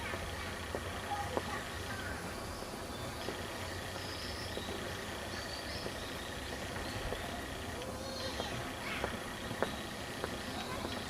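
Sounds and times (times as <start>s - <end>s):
faint high bird chirps: 0.0s - 11.0s
steady low rumble: 0.0s - 11.0s.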